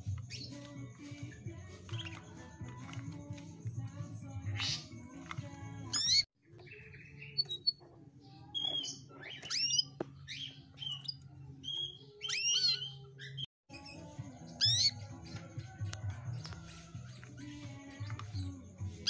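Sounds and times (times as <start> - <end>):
canary chirping: 0.0 - 19.0.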